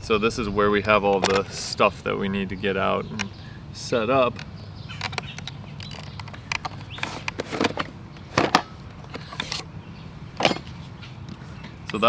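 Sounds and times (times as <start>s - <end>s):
hinges creaking and scraping: 0.8s - 12.0s.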